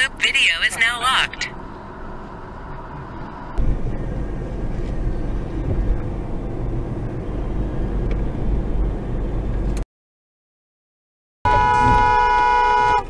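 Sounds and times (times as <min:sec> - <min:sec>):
car cabin road rumble: 0:00.0 - 0:09.8, 0:11.5 - 0:13.0.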